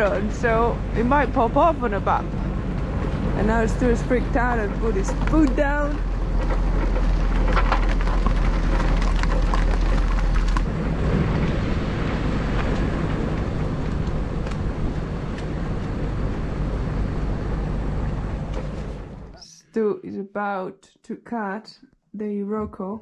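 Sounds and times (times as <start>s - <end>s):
trailer clattering knocks: 0.0s - 19.3s
vehicle engine running: 0.0s - 19.4s
wind rumble on microphone: 0.0s - 19.4s.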